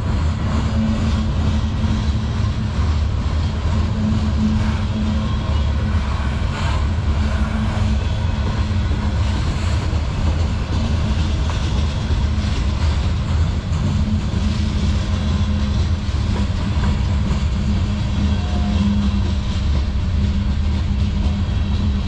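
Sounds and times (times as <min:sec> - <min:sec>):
freight train rolling past: 0:00.0 - 0:22.0
wheel-on-rail noise: 0:00.0 - 0:22.0.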